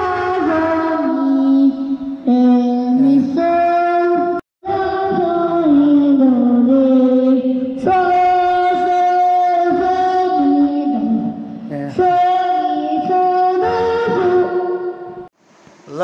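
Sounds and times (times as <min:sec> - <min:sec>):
boy singing into a microphone: 0:00.0 - 0:15.2.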